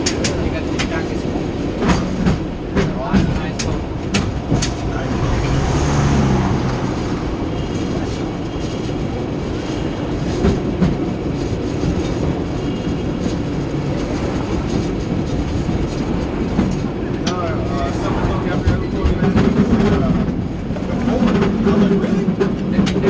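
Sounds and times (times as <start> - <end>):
tram rumbling on track: 0.0 - 23.0
wheels clicking and knocking on rails: 0.0 - 23.0.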